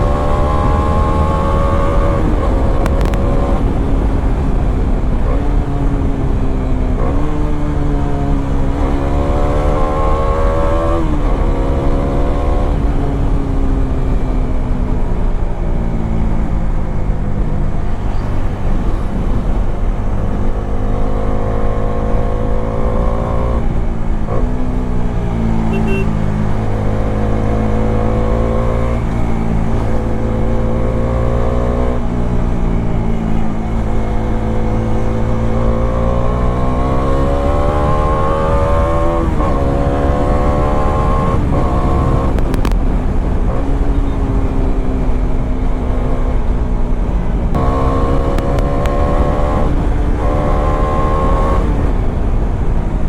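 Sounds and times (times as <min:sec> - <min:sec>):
motorcycle engine revving: 0:00.0 - 0:53.0
wind rumble: 0:00.0 - 0:53.0.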